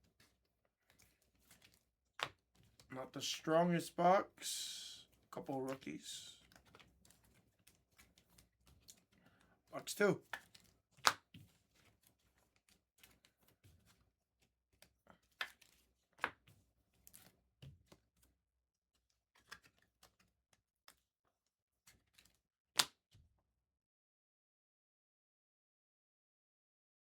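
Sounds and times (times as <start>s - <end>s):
cards being handled and opened: 0.0s - 18.4s, 19.0s - 21.1s, 21.8s - 23.0s.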